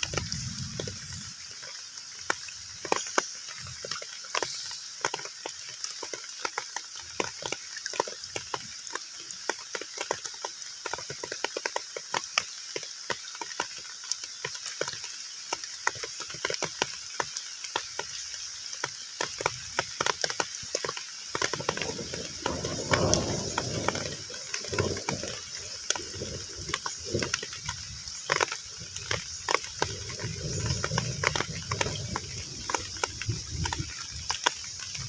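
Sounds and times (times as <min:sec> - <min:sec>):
heavy rain falling on a pond: 0:00.0 - 0:35.0.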